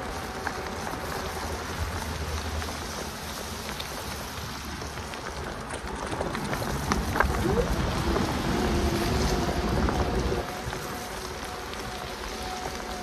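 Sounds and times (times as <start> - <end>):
rain: 0.0 - 13.0
tyres hissing on wet tarmac: 0.0 - 13.0
wind: 0.0 - 13.0.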